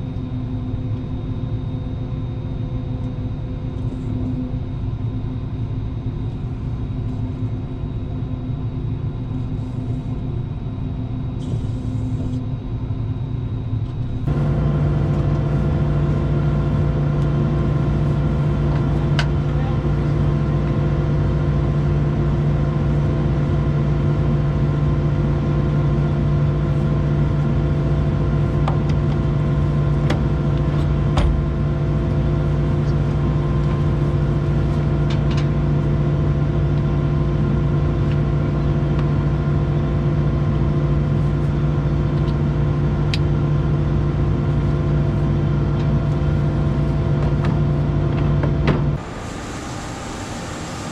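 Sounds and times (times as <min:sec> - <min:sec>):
diesel farm machinery running: 0:04.8 - 0:50.9.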